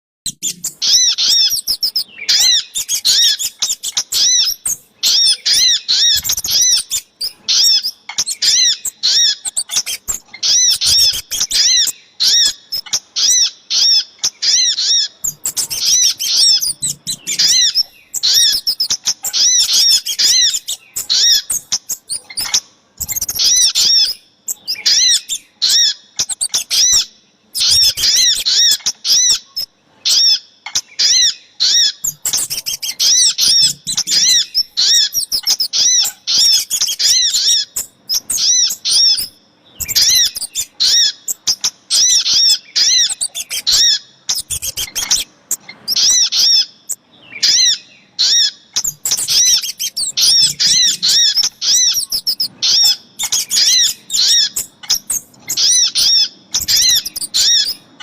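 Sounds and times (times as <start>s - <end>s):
high bird chirps: 0.3s - 58.0s.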